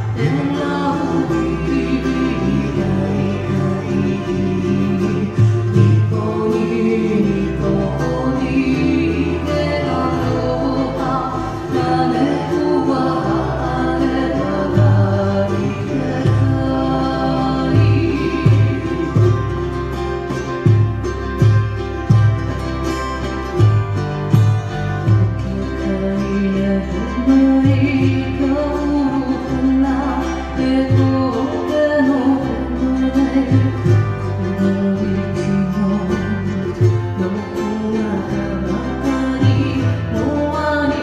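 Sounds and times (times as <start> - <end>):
woman singing: 0.0 - 20.4, 25.1 - 41.0
bass line: 0.0 - 41.0
ukulele and guitar: 0.0 - 41.0.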